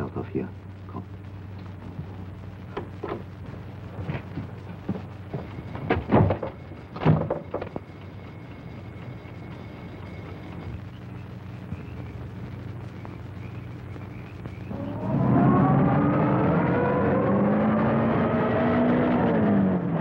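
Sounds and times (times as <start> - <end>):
film soundtrack hum: 0.0 - 20.0.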